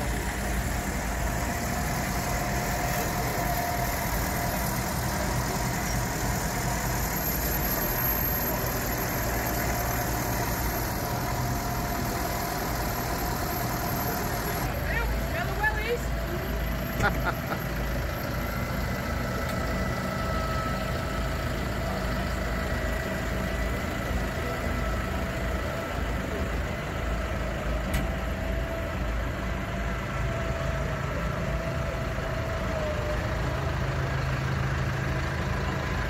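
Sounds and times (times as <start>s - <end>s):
thin steady whine: 0.0s - 33.8s
tractor diesel engines idling: 0.0s - 36.0s.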